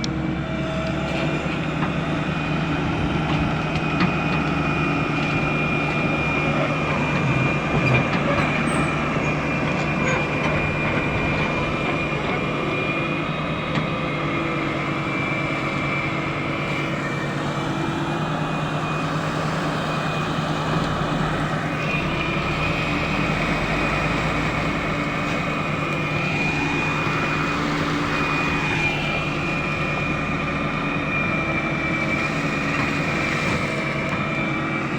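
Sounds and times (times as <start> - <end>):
heavy diesel machinery running: 0.0 - 34.9.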